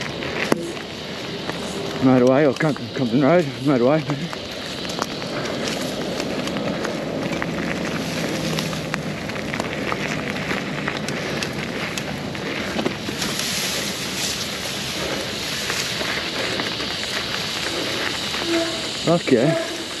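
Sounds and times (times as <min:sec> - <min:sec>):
bike clicks and rattles: 0:00.0 - 0:20.0
bike tyres rolling over dirt: 0:00.0 - 0:20.0
grass brushing bike: 0:00.0 - 0:20.0
wind rushing over microphone: 0:00.0 - 0:20.0.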